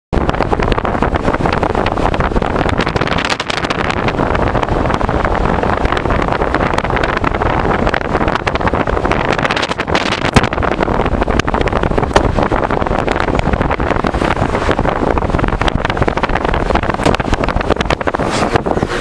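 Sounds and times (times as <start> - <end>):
wind buffeting microphone: 0.1 - 19.0
car road noise: 0.2 - 19.0.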